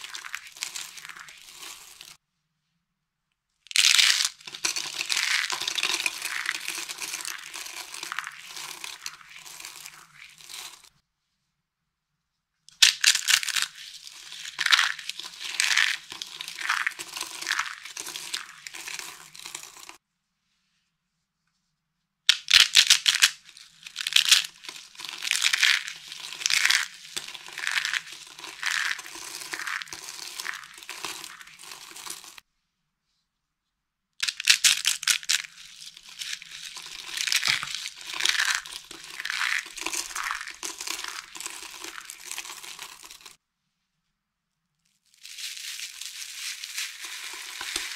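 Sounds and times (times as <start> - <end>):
dry soap crunching and crackling: 0.0 - 2.2, 3.7 - 11.0, 12.7 - 20.0, 22.3 - 32.4, 34.2 - 43.4, 45.0 - 47.9.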